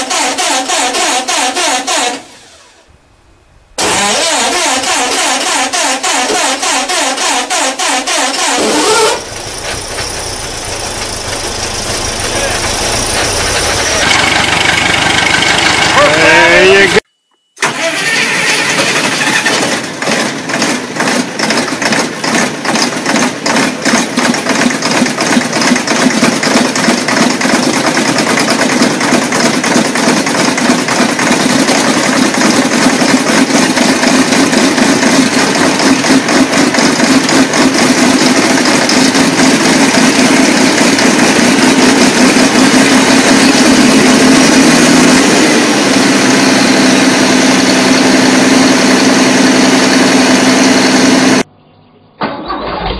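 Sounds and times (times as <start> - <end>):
engine running: 0.0 - 17.0, 17.6 - 51.6.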